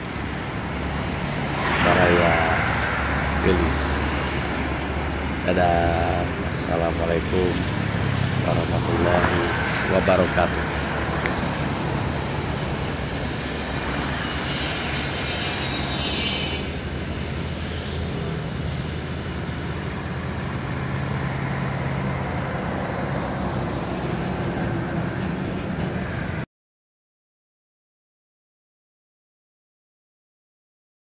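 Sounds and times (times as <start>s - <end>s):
highway traffic: 0.0s - 26.5s.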